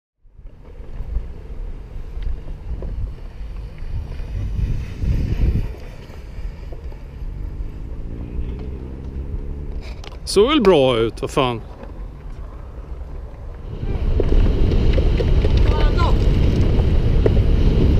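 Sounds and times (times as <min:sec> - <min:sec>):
skateboard wheels rolling on concrete: 0:00.2 - 0:17.9
wind buffeting microphone: 0:00.3 - 0:17.9.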